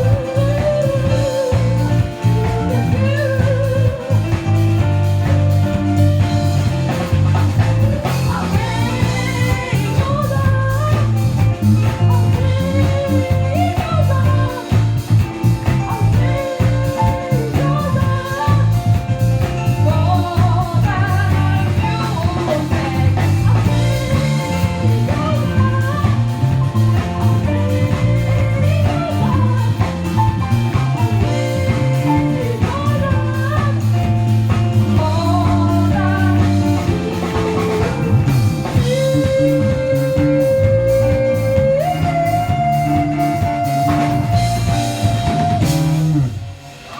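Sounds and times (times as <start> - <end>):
bass line: 0.0 - 46.9
drums: 0.0 - 46.9
guitar: 0.0 - 46.9
singing voice: 0.0 - 46.9.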